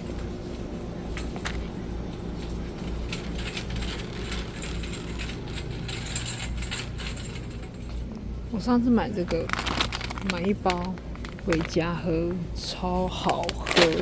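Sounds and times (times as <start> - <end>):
shopping cart basket rattling: 1.1 - 7.9, 9.0 - 14.0.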